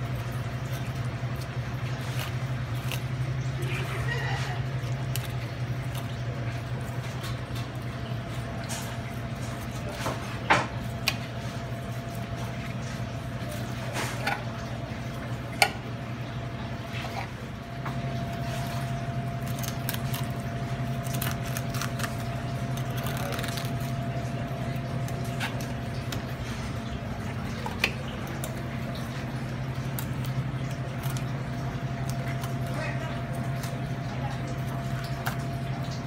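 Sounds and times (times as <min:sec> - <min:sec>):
wet squishing: 0:00.0 - 0:36.0.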